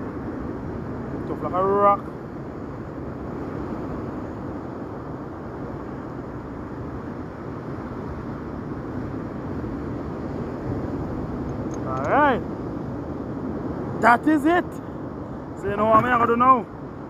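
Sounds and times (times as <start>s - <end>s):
surf on stony shore: 0.0s - 17.0s.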